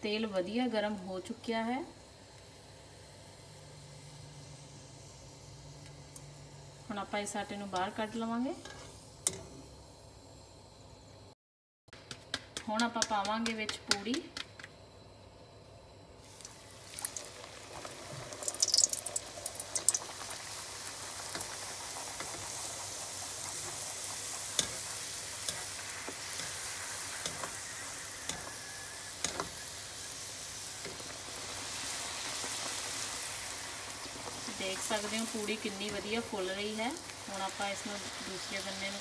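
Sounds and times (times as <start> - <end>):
dough sizzling in hot oil: 0.0 - 11.4, 15.9 - 39.0.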